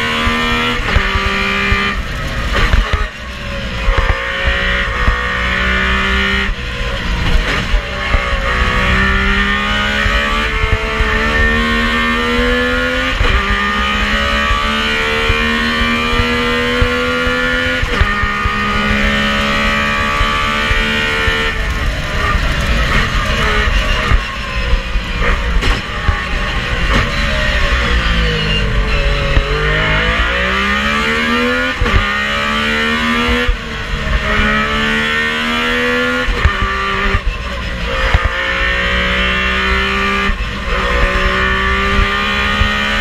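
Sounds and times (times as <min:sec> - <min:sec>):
rally car engine accelerating: 0:00.0 - 0:43.0.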